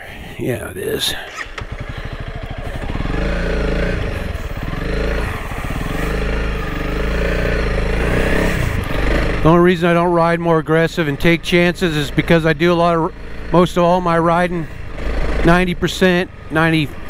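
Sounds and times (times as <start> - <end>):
motorcycle engine revving: 1.2 - 17.0.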